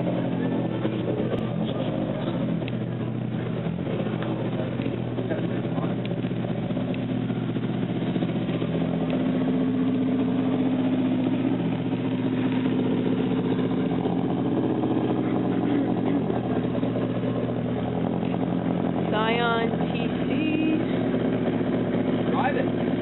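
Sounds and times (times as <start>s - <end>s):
car exhaust idling: 0.0s - 23.0s.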